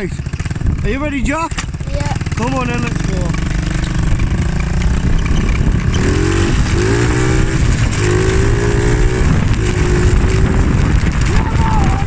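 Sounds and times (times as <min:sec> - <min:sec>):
small motorbike engine revving: 0:00.0 - 0:12.0.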